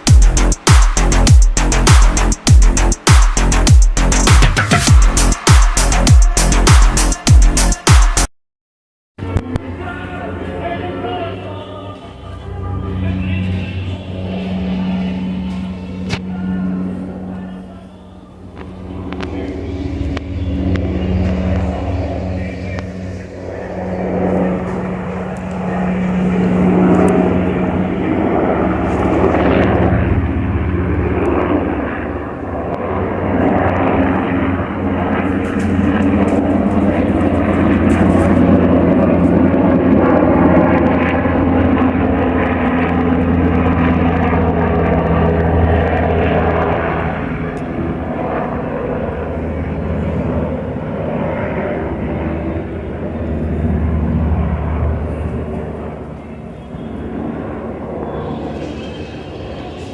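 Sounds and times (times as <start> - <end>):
helicopter passing overhead: 0.0 - 8.3, 9.2 - 59.9.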